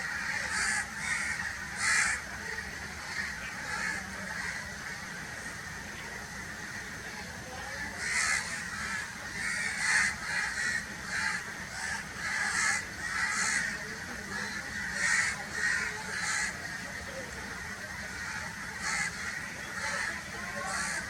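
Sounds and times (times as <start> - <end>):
crows cawing: 0.0 - 5.2, 7.7 - 21.0.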